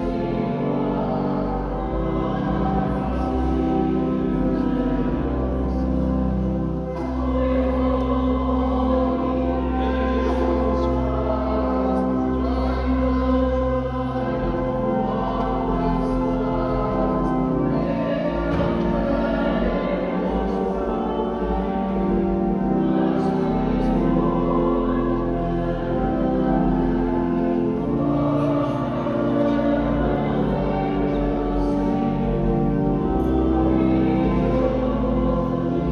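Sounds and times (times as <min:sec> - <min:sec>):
voices singing a hymn: 0:00.0 - 0:35.9.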